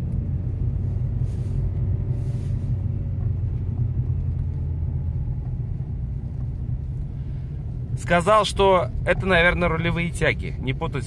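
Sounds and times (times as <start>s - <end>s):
car interior road and engine rumble: 0.0s - 11.0s.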